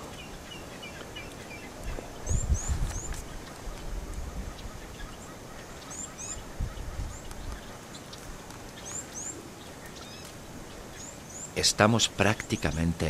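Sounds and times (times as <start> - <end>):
bird chirping: 0.0 - 13.0
outdoor background noise: 0.0 - 13.0.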